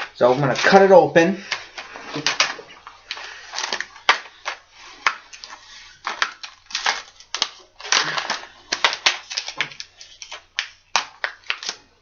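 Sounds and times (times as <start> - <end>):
plastic packaging crackling: 0.0 - 12.0
plastic snapping: 1.5 - 11.8.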